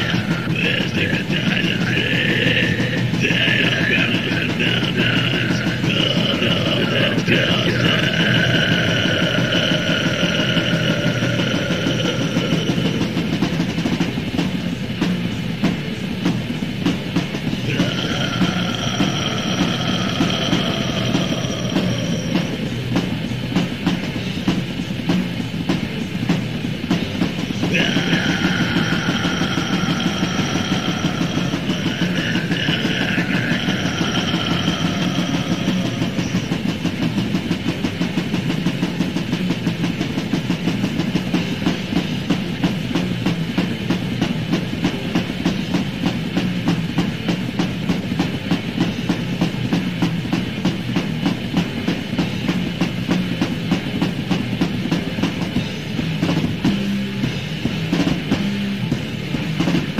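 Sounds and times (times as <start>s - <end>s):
distorted metal guitars: 0.0s - 59.9s
rapid drumming: 0.0s - 59.9s.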